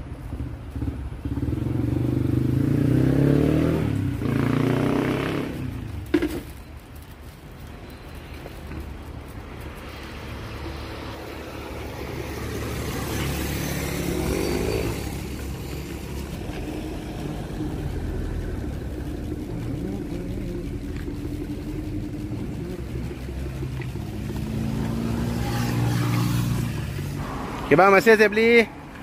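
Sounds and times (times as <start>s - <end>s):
vehicles passing: 0.0s - 29.0s.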